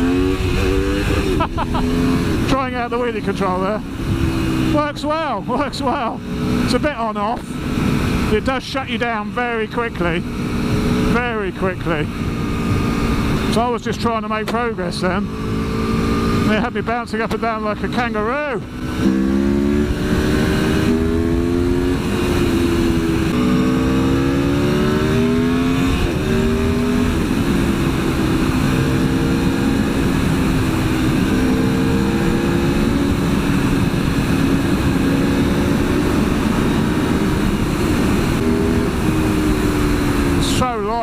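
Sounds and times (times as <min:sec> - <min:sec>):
wind rush on microphone: 0:00.0 - 0:17.0, 0:18.6 - 0:41.0
motorcycle engine accelerating: 0:00.0 - 0:41.0.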